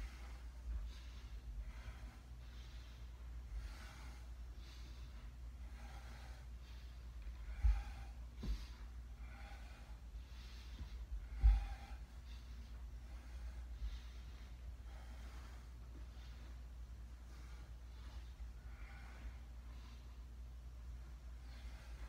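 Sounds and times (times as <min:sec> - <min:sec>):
soft low thumps: 0:00.0 - 0:19.1
man breathing: 0:00.0 - 0:22.0.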